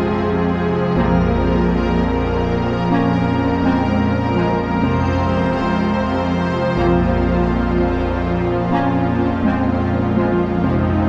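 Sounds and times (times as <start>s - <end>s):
sustained background music chords: 0.0s - 11.0s.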